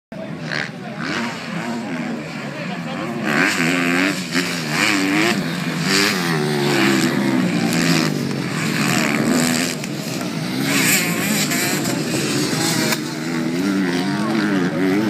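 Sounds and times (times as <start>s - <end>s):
motocross bikes revving: 0.2s - 15.0s.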